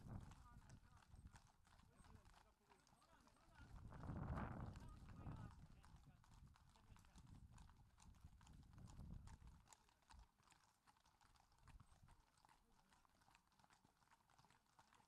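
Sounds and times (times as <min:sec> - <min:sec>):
horse hooves on tarmac: 0:00.0 - 0:15.0.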